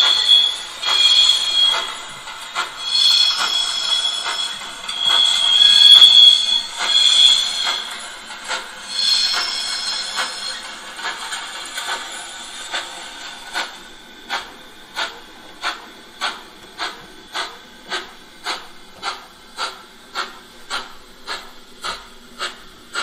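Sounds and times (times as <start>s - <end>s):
model steam locomotive chuffing: 0.0s - 23.0s
steady steam hiss: 0.0s - 23.0s.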